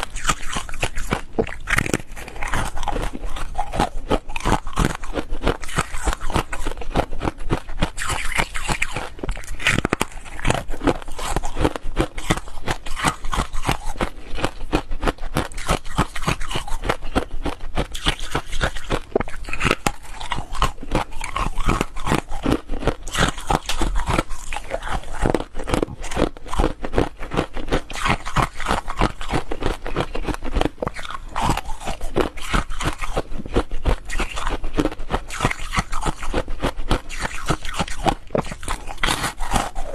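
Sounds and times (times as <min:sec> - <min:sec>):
ice being bitten and chewed: 0:00.0 - 0:39.9.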